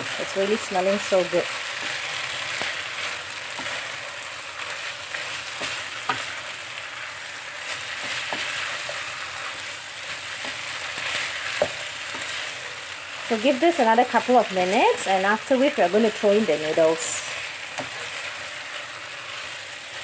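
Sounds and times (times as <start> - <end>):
food sizzling in a hot pan: 0.0 - 20.0.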